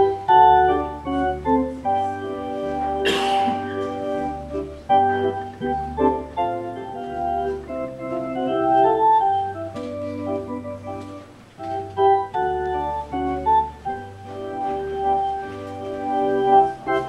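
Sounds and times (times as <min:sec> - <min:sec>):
organ playing slow tune: 0:00.0 - 0:17.0.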